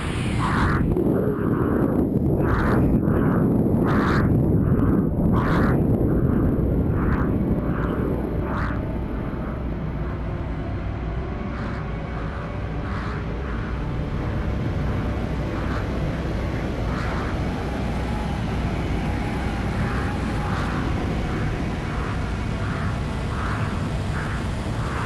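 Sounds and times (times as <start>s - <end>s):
rumbling rush of air: 0.0s - 25.0s.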